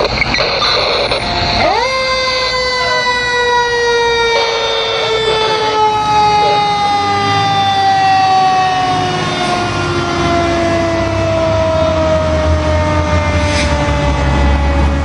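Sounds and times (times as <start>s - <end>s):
fire truck siren falling in pitch: 0.0s - 15.0s.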